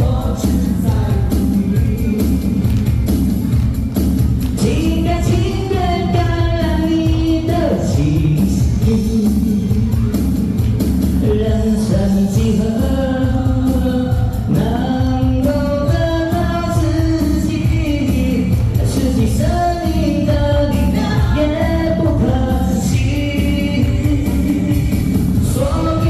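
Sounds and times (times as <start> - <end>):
amplified backing music with beat: 0.0 - 26.0
person singing pop ballad: 0.0 - 26.0.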